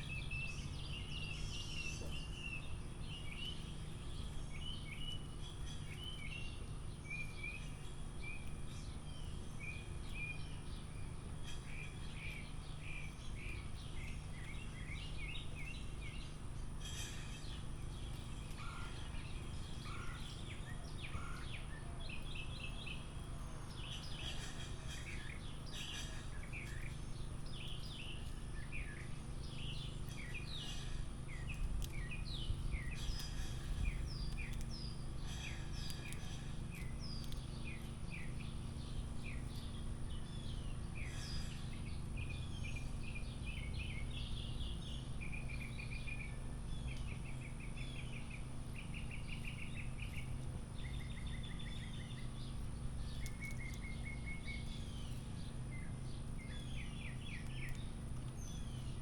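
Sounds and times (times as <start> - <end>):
low background rumble: 0.0 - 59.0
songbirds chirping and trilling: 0.0 - 59.0.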